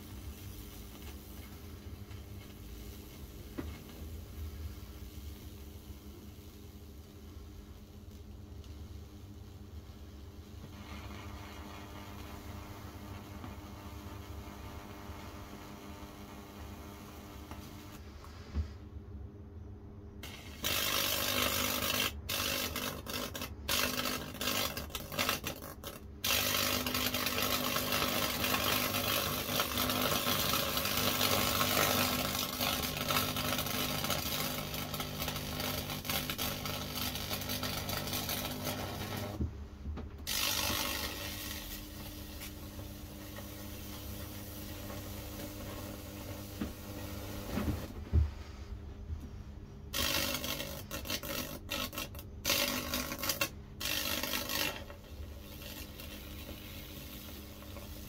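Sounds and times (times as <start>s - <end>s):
electric arc hissing and crackling: 0.0s - 18.0s, 20.2s - 39.4s, 40.2s - 48.0s, 49.9s - 58.0s
electrical hum: 0.0s - 58.0s.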